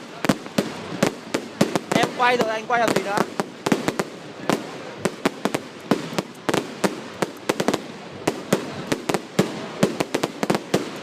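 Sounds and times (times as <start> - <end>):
distant crackling and rumble: 0.0 - 11.0
fireworks bangs with echo: 0.0 - 11.0.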